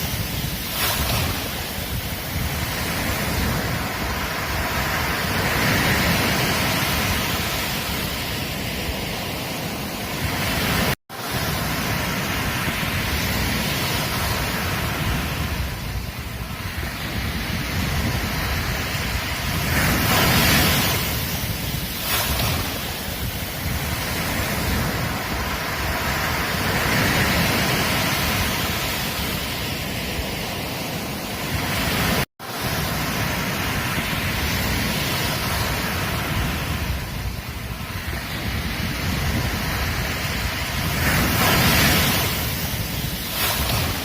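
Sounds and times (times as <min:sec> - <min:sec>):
ocean waves breaking on beach: 0:00.0 - 0:44.0.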